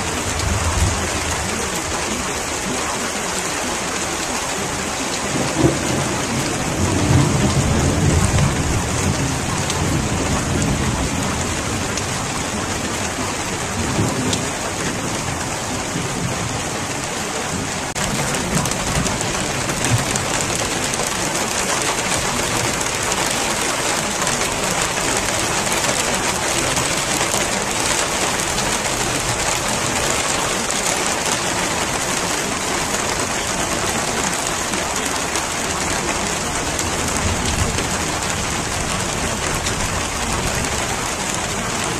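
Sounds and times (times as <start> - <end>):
thunder rumbling: 0.0 - 2.4, 5.1 - 41.9
steady rain falling: 0.0 - 41.9.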